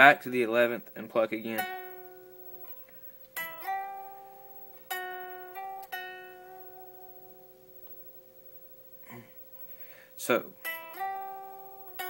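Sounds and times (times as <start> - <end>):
guitar notes plucked and slid: 0.0 - 8.0, 9.9 - 12.0.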